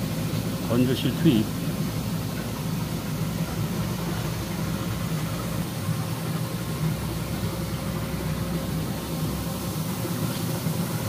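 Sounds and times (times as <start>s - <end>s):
faint steady whine: 0.0s - 11.0s
machine humming: 0.0s - 11.0s.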